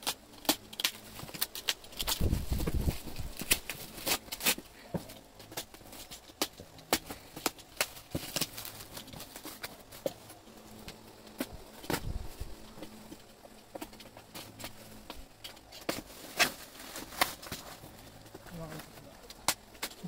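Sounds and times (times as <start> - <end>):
plastic wrap and tape crinkling: 0.0 - 20.0.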